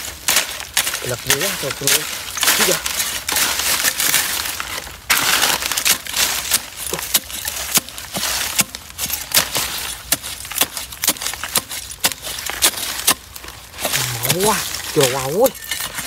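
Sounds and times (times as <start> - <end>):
metal blade striking soil and roots: 0.0 - 16.0
scraping and rustling: 0.0 - 16.0.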